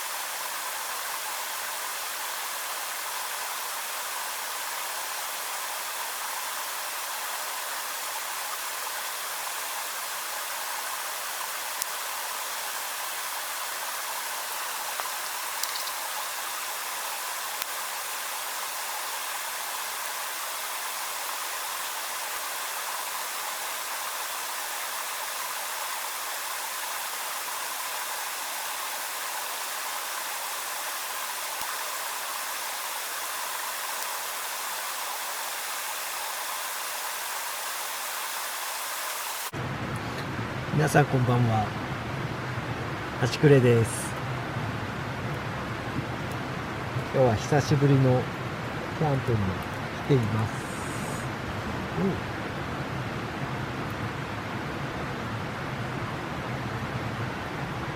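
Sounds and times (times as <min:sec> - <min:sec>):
steady hiss: 0:00.0 - 0:57.9.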